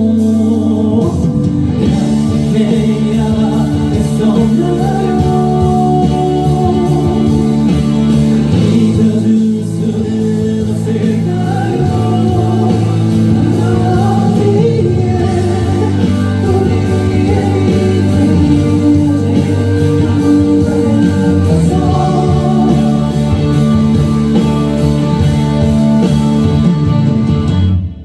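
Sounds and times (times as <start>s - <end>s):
person singing: 0.0s - 27.0s
slow band song with guitar: 0.0s - 28.0s.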